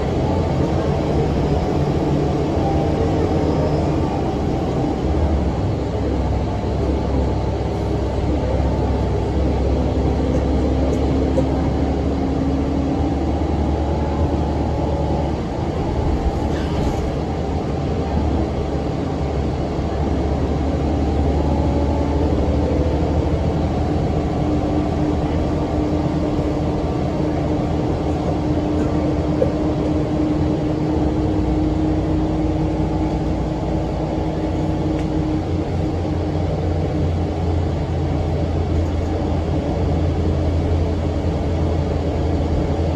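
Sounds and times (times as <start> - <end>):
diesel bus engine rumbling: 0.0 - 42.9
engine cooling fan: 0.0 - 42.9.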